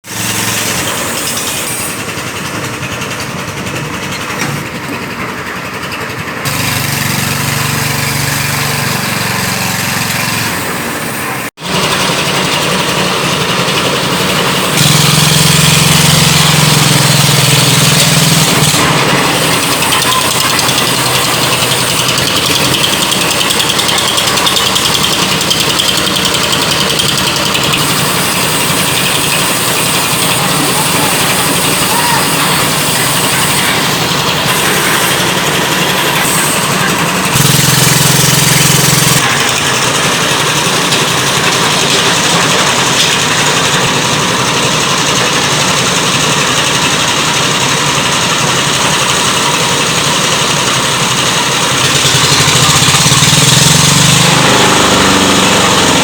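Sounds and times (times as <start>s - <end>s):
construction machinery engines: 0.0s - 56.0s.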